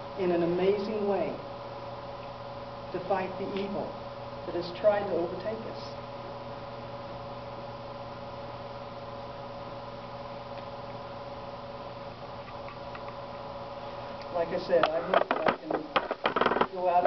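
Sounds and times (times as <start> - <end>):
room hum with held tones: 0.0 - 17.0.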